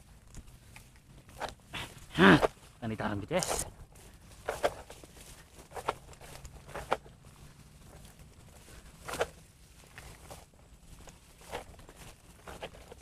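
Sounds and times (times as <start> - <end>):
footsteps through tall grass: 0.0 - 13.0.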